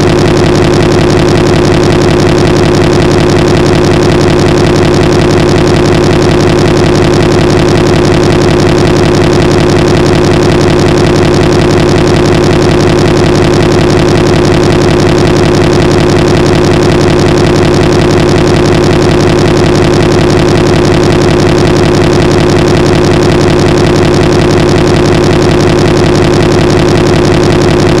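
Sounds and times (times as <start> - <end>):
buzzing digital glitch drone: 0.0 - 28.0.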